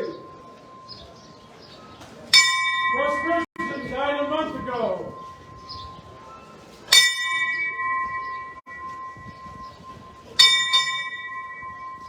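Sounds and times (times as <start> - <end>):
bell ringing: 0.0 - 12.0.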